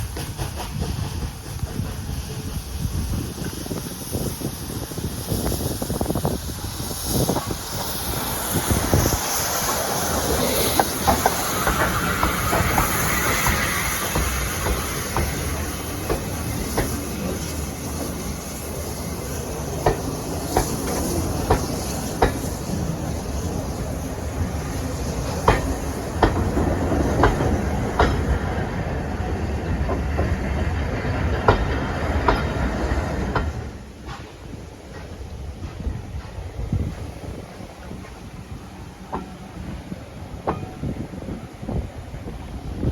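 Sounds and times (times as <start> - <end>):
train wheels clicking over rail joints: 0.0 - 42.5
train hiss: 0.0 - 42.9.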